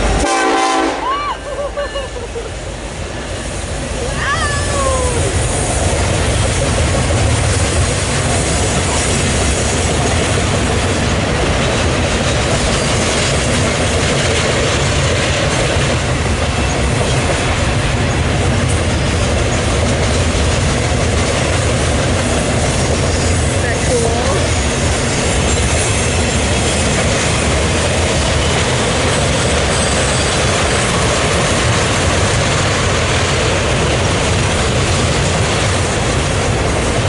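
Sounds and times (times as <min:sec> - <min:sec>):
freight train wheels rumbling on rail: 0:00.0 - 0:37.0.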